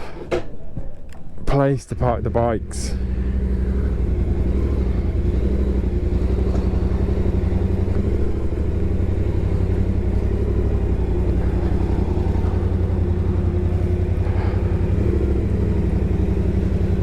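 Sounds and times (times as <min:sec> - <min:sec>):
motorcycle engine idling: 0:02.0 - 0:17.0.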